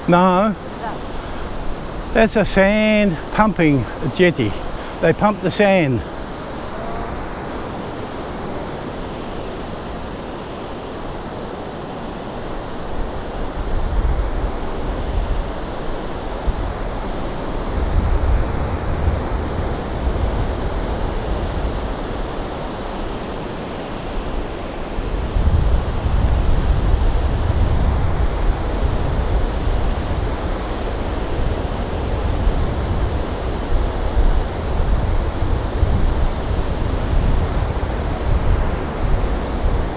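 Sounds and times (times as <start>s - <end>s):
wind buffeting microphone: 0.0s - 23.6s, 24.2s - 39.9s
ocean surf washing onto beach: 0.0s - 39.9s.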